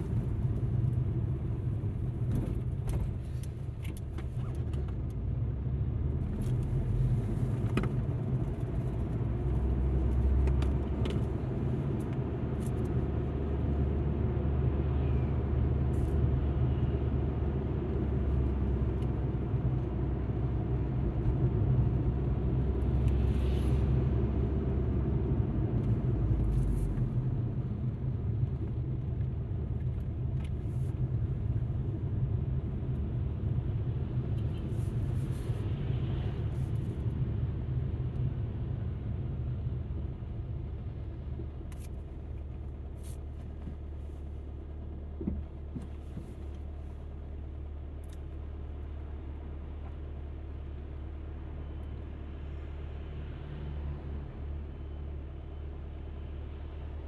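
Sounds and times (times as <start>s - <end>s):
car cabin engine rumble: 0.0s - 51.8s.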